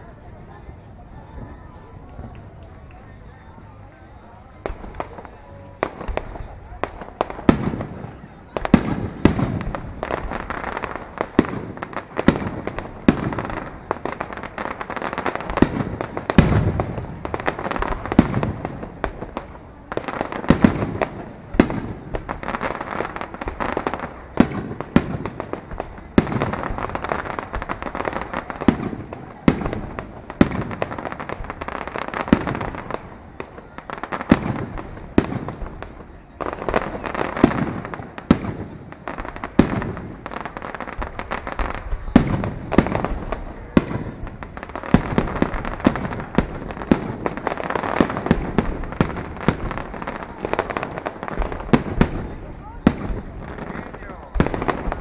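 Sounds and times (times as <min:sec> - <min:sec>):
fireworks bursting with sharp bangs: 0:00.0 - 0:55.0
fireworks crackling: 0:00.0 - 0:55.0.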